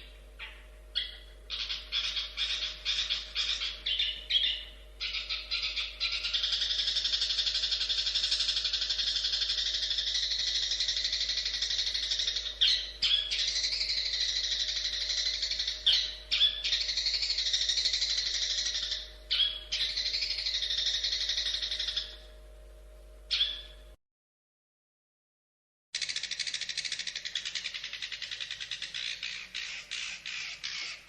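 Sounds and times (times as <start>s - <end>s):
bird chattering song: 0.0s - 22.3s, 23.3s - 23.9s, 26.0s - 31.0s.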